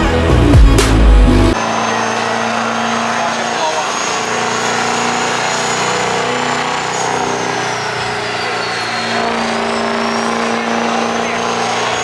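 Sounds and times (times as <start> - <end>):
truck engines running: 0.0 - 12.0.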